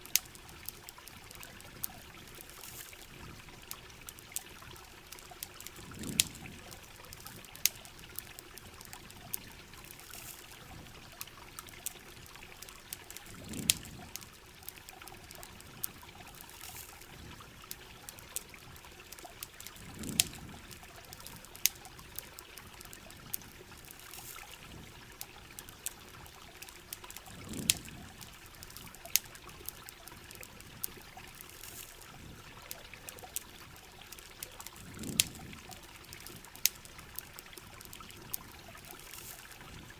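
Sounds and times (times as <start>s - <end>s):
campfire crackling and popping: 0.0s - 39.9s
running water: 0.0s - 39.9s
steady rain: 0.0s - 39.9s.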